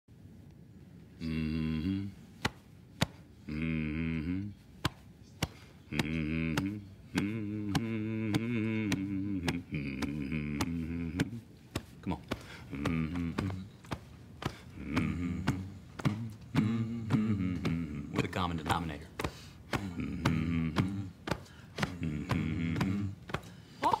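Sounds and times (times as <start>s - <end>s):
man humming deeply: 1.2s - 2.4s, 3.3s - 4.7s, 5.8s - 24.0s.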